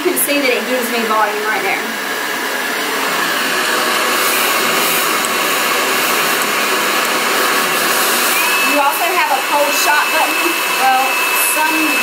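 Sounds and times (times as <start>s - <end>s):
blow dryer running: 0.0s - 12.0s.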